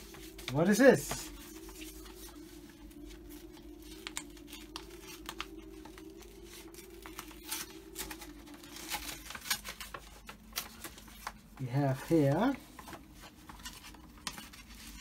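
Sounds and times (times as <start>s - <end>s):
faint steady hum: 0.0s - 15.0s
paper wrapping rustling and tearing: 0.0s - 15.0s.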